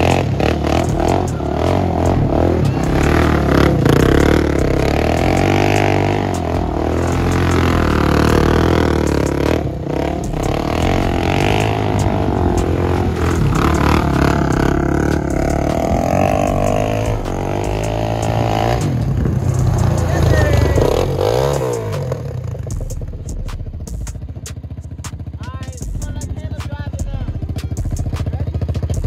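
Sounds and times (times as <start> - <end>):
quad engine revving: 0.0 - 29.0.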